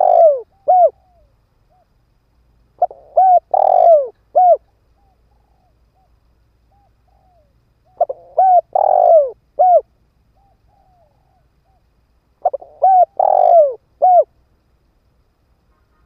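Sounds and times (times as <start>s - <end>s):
dove cooing: 0.0s - 1.9s, 2.8s - 14.3s.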